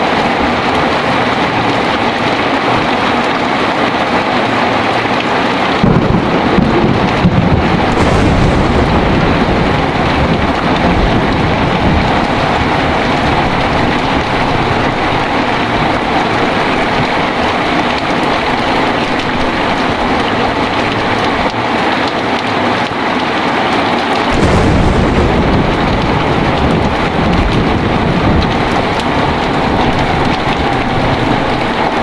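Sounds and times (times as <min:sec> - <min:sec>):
thunder rumbling: 0:00.0 - 0:22.4, 0:24.2 - 0:32.0
heavy rain falling: 0:00.0 - 0:32.0.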